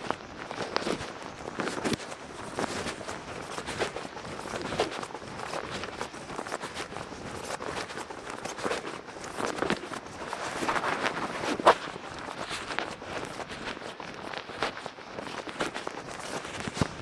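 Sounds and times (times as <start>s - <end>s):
soft noise: 0.0s - 17.0s.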